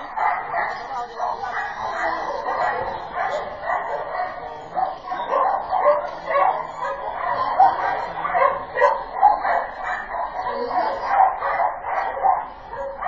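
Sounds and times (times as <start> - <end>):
dog barking: 0.0 - 13.0.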